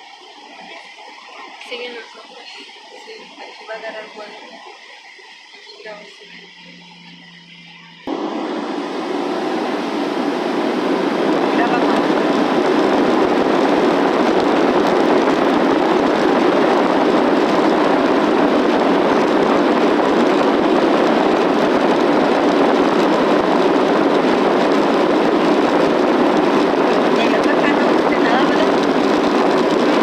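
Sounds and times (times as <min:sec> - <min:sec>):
jet engines roaring in cabin: 0:00.0 - 0:30.0.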